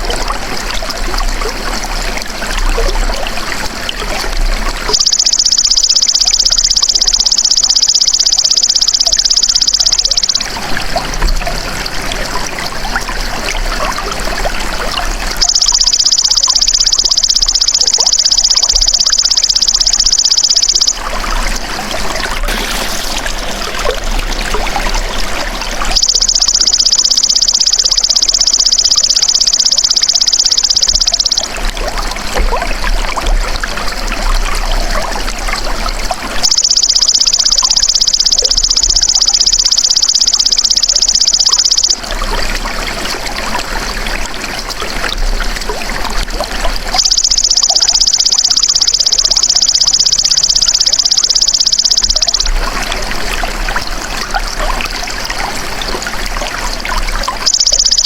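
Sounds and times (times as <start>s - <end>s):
trickling running water: 0.0s - 58.0s.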